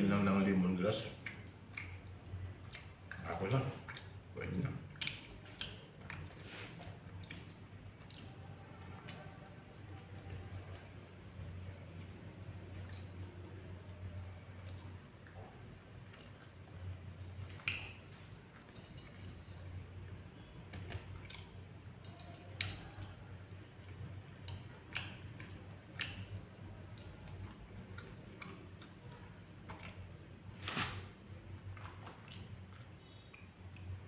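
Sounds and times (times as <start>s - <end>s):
person chewing with mouth smacks: 1.1s - 30.8s, 31.7s - 34.0s.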